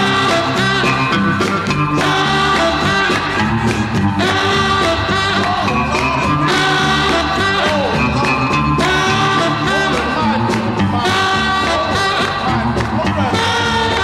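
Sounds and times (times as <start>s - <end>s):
song with singer and band: 0.0s - 14.0s.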